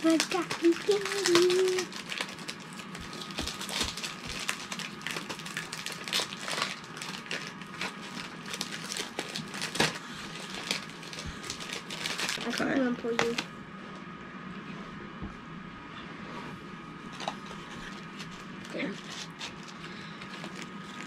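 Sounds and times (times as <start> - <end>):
cardboard packaging crinkling: 0.0 - 13.4, 17.1 - 21.0.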